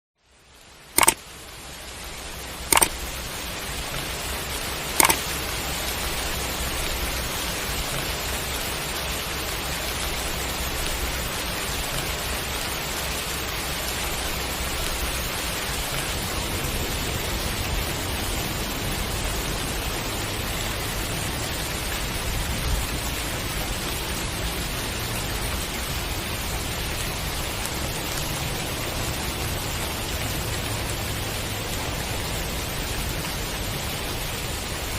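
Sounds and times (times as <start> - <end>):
heavy rain: 0.2 - 34.9.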